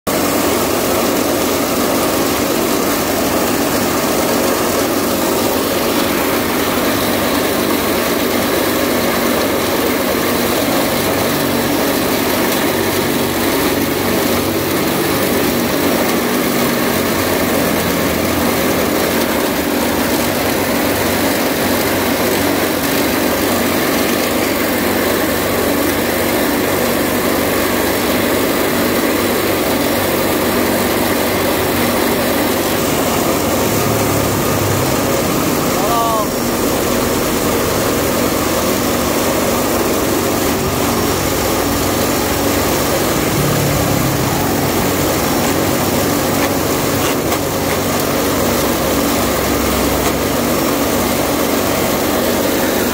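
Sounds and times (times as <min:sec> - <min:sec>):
electric branch chopper running: 0:00.1 - 0:52.9.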